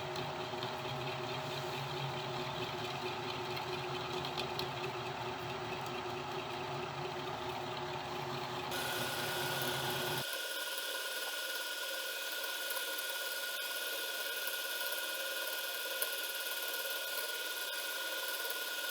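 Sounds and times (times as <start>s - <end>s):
milling machine hum and whine: 0.0s - 18.9s.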